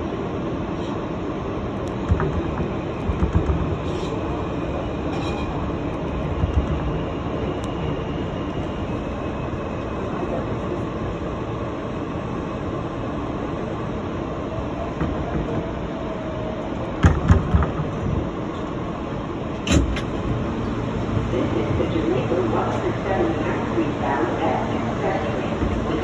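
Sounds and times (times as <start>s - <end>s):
train wheels rumbling on rails: 0.0s - 12.6s, 13.6s - 26.0s.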